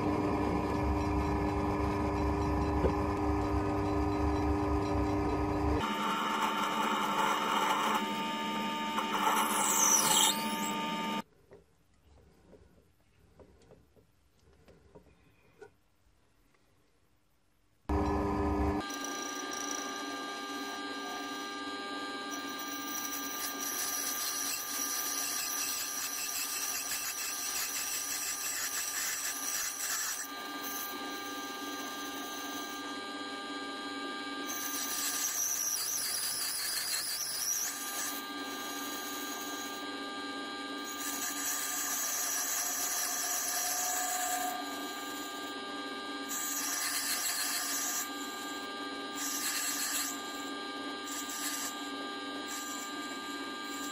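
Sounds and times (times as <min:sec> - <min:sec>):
lathe whining: 0:00.0 - 0:11.2, 0:17.9 - 0:53.9
high-pitched metal cutting: 0:00.7 - 0:11.2, 0:18.8 - 0:53.9.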